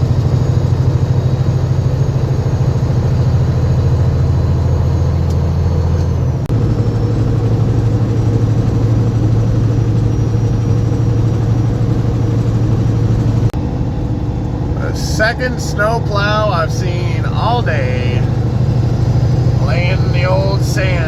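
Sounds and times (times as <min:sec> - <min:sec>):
truck diesel engine hum: 0:00.0 - 0:21.0.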